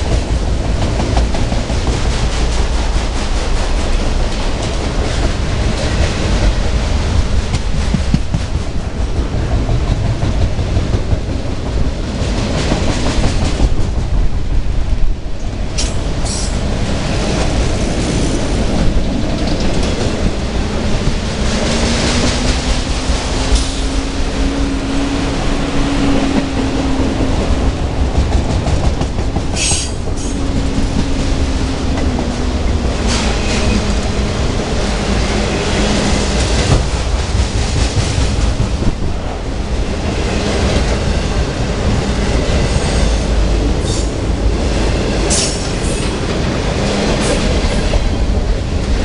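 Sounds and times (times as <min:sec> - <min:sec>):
train wheels clattering on rails: 0:00.0 - 0:49.0.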